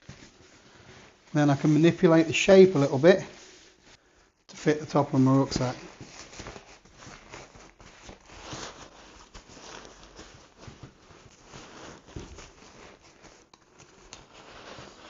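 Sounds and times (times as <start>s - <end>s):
nylon fabric rustling: 0.0s - 15.0s.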